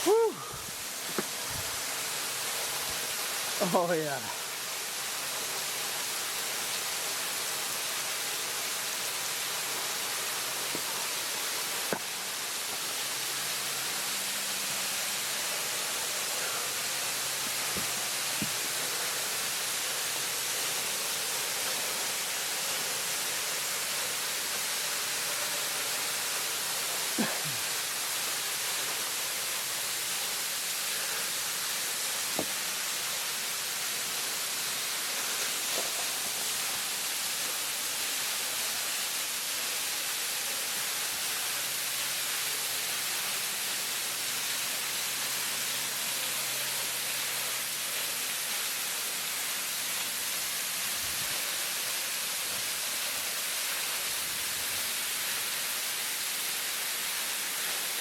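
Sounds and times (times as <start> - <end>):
waterfall roar: 0.0 - 58.0.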